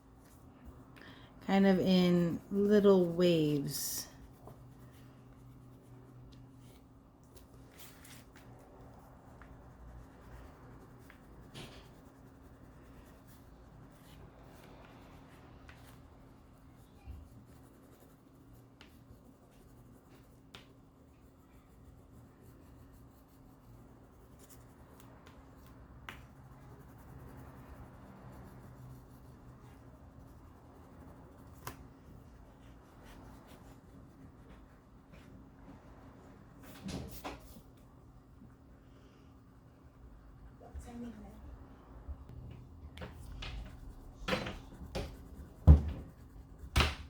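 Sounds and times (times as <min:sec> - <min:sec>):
low steady hum: 0:00.0 - 0:47.0
pencil scratching on paper: 0:01.5 - 0:35.4, 0:43.1 - 0:47.0.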